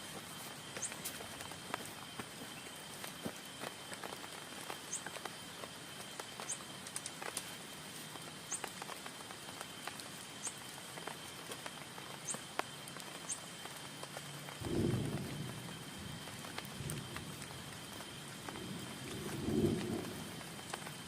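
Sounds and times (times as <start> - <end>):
rain on a tent: 0.0 - 21.0.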